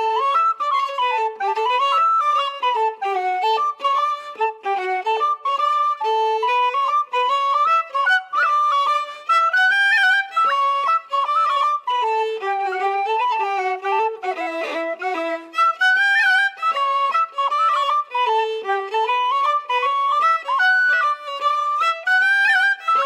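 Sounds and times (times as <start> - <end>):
fiddle playing a tune: 0.0 - 23.0.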